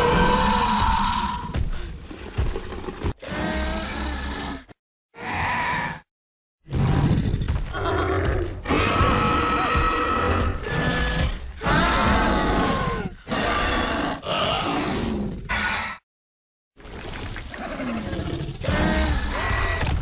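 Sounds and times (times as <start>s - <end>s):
dinosaur growls and roars: 0.0s - 16.0s, 17.4s - 20.0s.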